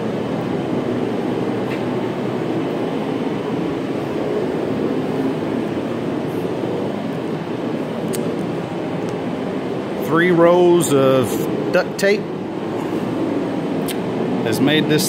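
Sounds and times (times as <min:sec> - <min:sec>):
mechanical drone with rushing hiss: 0:00.0 - 0:15.0.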